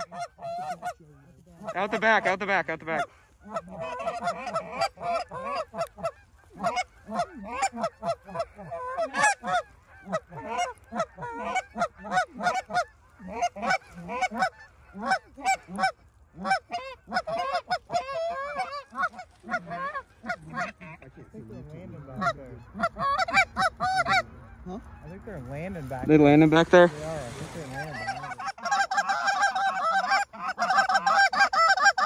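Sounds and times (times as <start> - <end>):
geese honking and clucking: 0.0 - 32.0.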